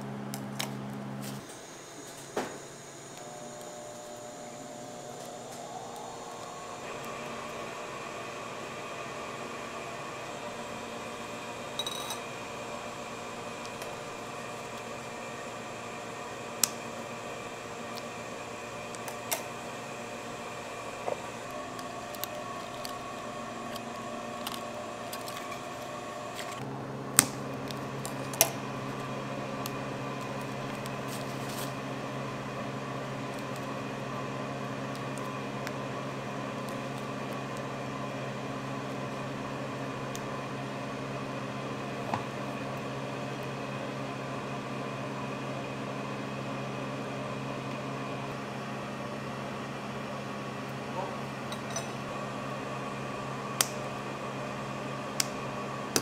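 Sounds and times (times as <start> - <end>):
kitchen machinery humming: 0.0 - 56.0.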